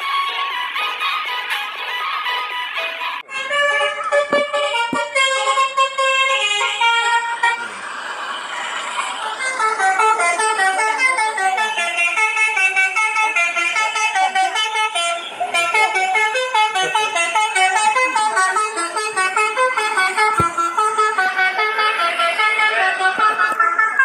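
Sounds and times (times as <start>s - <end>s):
musical bus horn melody: 1.3s - 7.7s, 9.4s - 24.0s.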